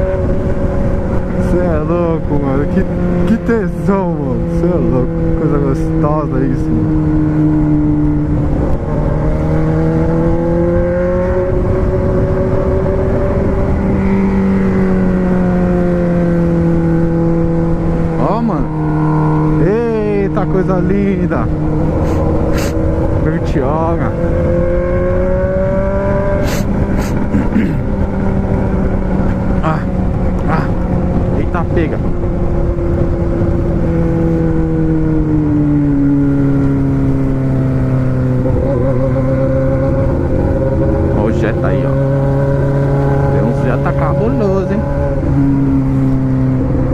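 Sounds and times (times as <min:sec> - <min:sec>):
car engine running: 0:00.0 - 0:46.9
road noise rumble: 0:00.0 - 0:46.9.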